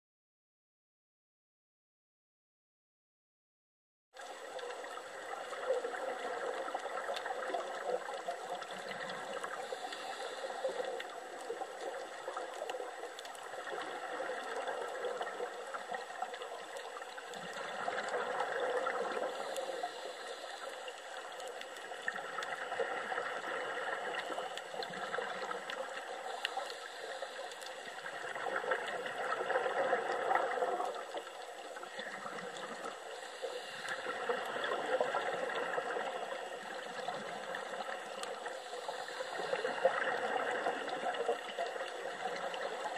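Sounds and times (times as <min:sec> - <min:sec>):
faint clicks: 0:04.2 - 0:42.9
underwater bubbling hiss: 0:04.2 - 0:42.9.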